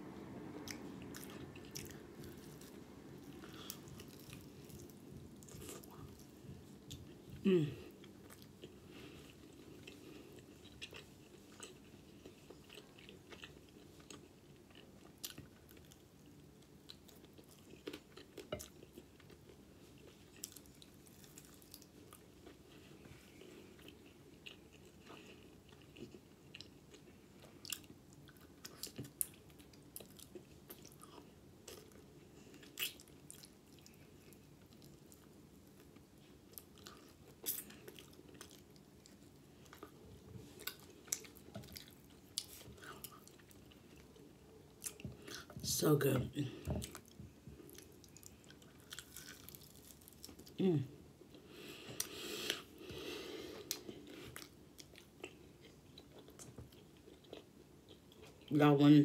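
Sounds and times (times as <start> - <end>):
person chewing: 0.6 - 45.6, 46.6 - 50.6, 51.2 - 58.5.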